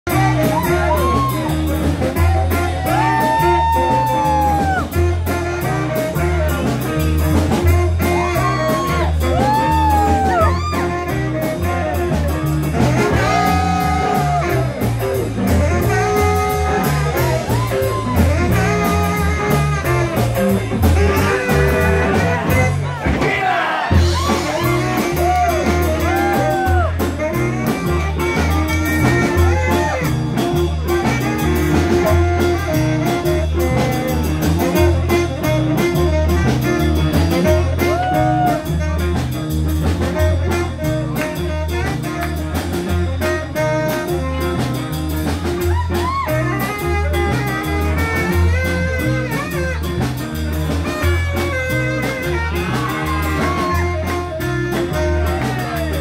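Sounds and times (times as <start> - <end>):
blues combo playing: 0.0 - 56.0.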